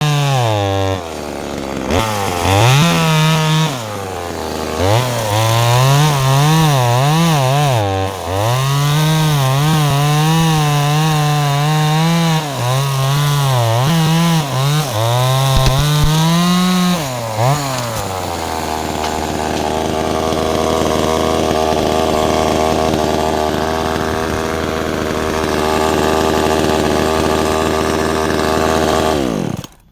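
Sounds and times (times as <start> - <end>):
chainsaw cutting wood: 0.0 - 29.9
chainsaw idling: 0.0 - 29.9.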